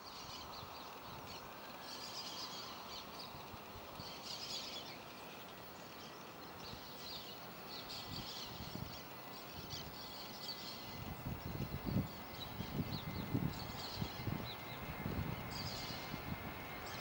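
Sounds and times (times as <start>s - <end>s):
birds chirping: 0.0s - 17.0s
faint background hum: 0.0s - 17.0s.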